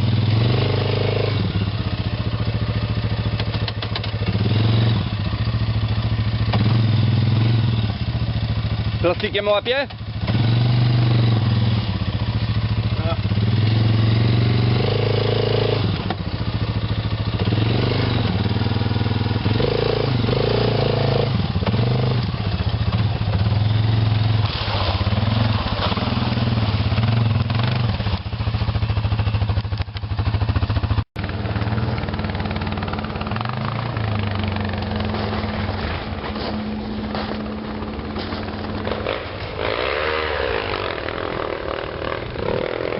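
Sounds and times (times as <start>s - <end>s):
quad engine revving: 0.0s - 42.9s.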